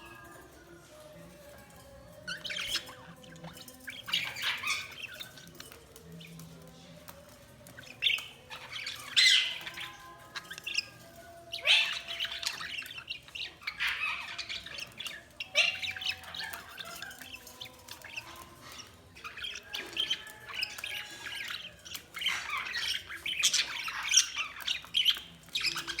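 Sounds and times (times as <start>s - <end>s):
budgies chirping and squawking: 0.0s - 26.0s.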